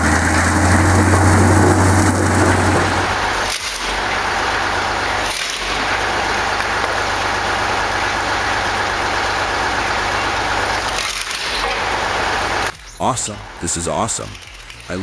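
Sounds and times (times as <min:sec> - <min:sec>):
wood-cutting machinery: 0:00.0 - 0:14.8.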